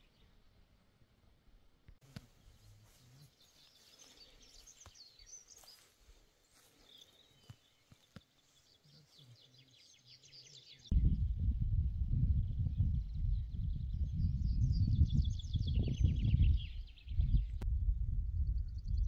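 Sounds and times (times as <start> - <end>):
songbirds chirping: 0.0 - 17.6.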